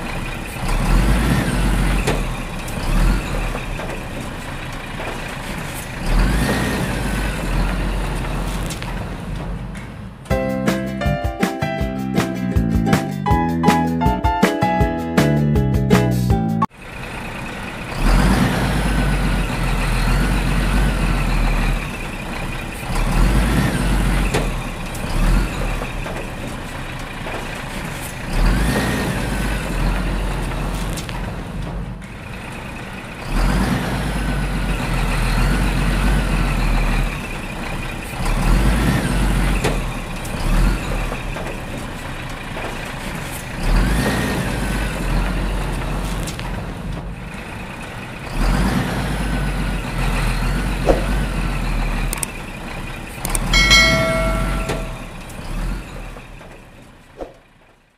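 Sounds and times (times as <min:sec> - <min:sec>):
heavy truck engine rumbling: 0:00.0 - 0:57.9.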